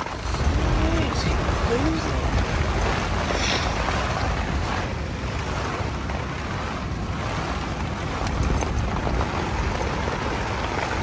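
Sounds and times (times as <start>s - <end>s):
strong wind gusts on microphone: 0.0s - 11.0s.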